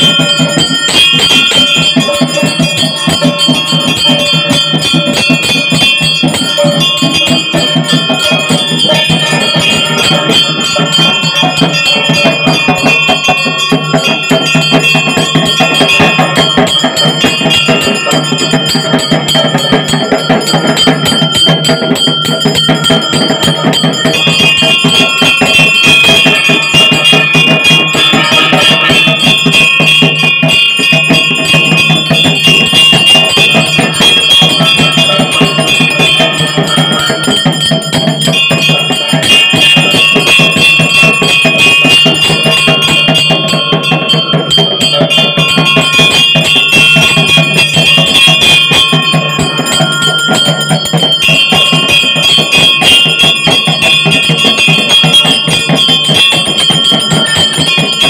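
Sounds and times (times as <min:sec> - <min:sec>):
hand bell ringing rapidly: 0:00.0 - 0:58.0.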